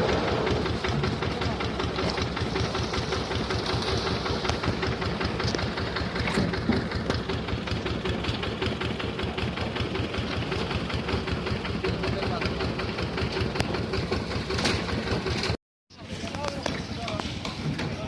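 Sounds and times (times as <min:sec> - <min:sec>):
concrete mixer engine knocking: 0:00.0 - 0:15.6, 0:16.3 - 0:18.0.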